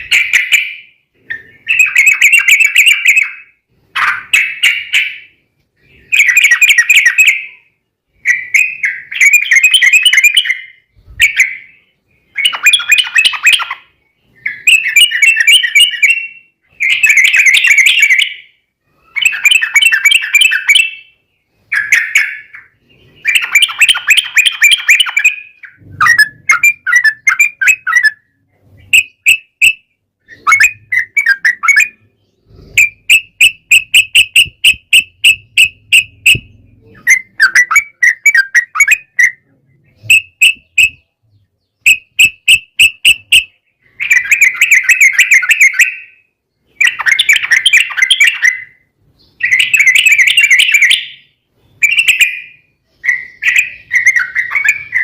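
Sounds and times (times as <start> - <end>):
bulbuls singing: 0.0 - 55.0.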